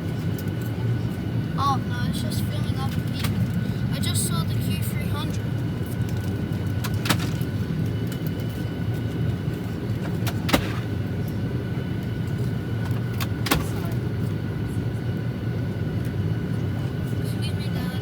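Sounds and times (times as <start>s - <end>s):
aircraft cabin air hum: 0.0s - 18.0s.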